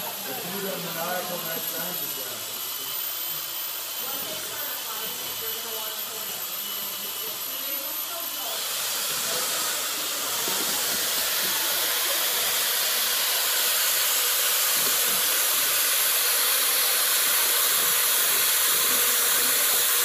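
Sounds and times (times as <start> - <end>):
electric drill mixing in bucket: 0.0 - 20.0.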